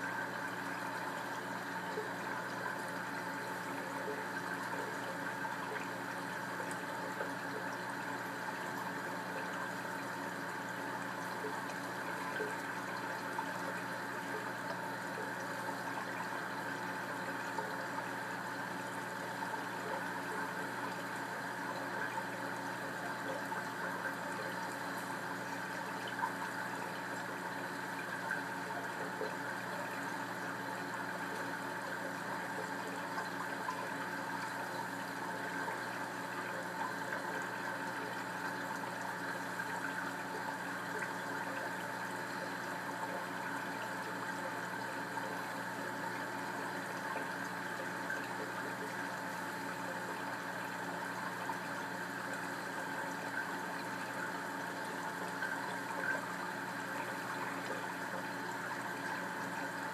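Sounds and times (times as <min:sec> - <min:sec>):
pump hum: 0:00.0 - 0:59.9.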